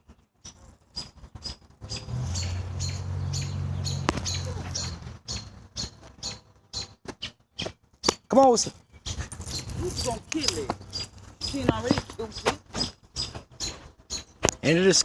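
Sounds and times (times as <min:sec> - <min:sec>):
bird squeaky distress chirps: 0:00.4 - 0:14.4.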